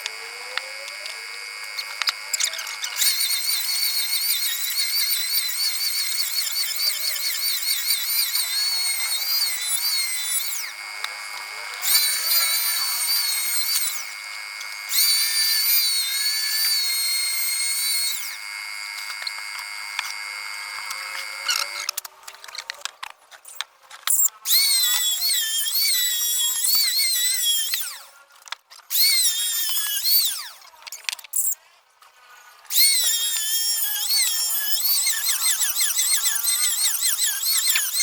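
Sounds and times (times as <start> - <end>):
power tool cutting wood: 0.0 - 22.0, 24.0 - 28.2, 28.9 - 30.8, 32.7 - 38.0.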